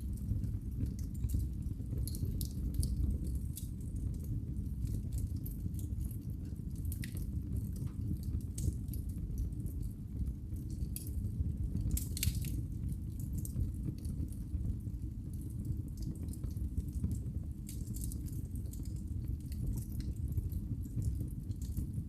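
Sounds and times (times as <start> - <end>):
fire crackles and pops: 0.0 - 22.0
low rumble of flame: 0.0 - 22.0.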